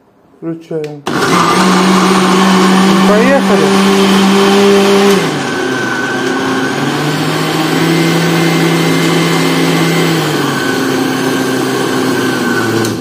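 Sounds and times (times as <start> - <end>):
blender motor running: 1.1 - 13.0.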